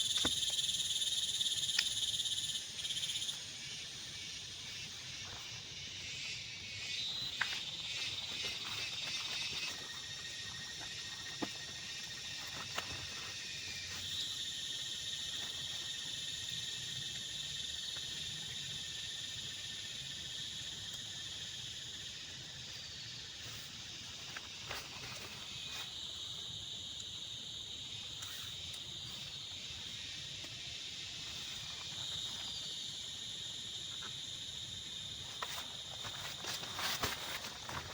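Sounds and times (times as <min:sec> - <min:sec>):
insects chirring: 0:00.0 - 0:37.9.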